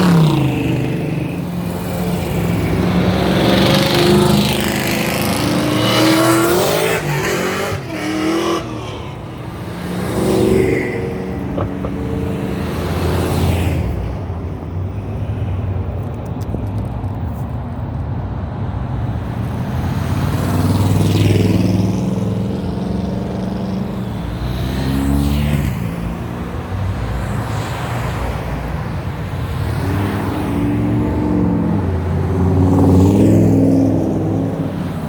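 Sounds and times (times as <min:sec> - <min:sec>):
loud cars driving past: 0:00.0 - 0:35.0.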